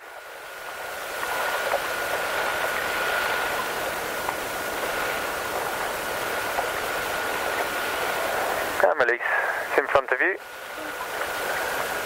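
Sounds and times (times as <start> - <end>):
radio channel hiss: 0.0 - 12.0.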